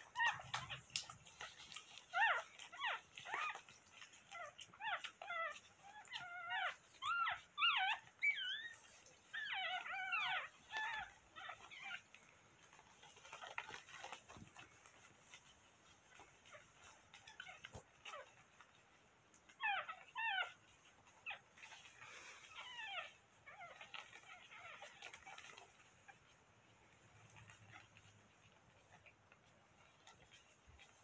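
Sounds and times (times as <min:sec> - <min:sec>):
puppies squealing and whimpering: 0:00.0 - 0:31.0.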